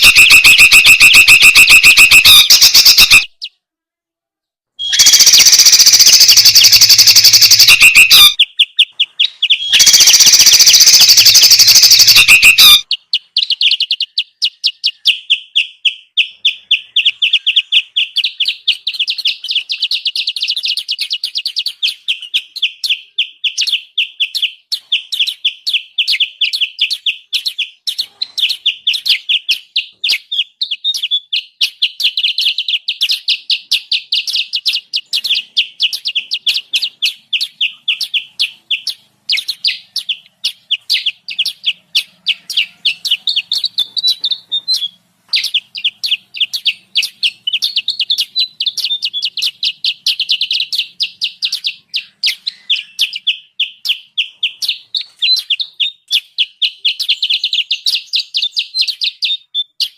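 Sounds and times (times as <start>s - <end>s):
songbird chattering calls: 0.0s - 3.5s, 4.8s - 59.9s.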